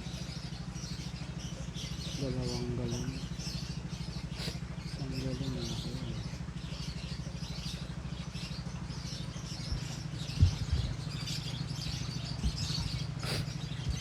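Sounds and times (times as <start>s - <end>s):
lovebirds chirping: 0.9s - 14.0s
fast-pulsing low hum: 2.0s - 14.0s.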